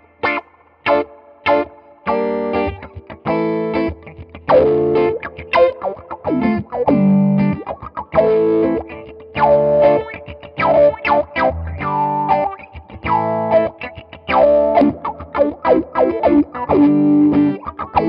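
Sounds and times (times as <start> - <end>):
electric guitar with wah-like filter: 0.0 - 18.0.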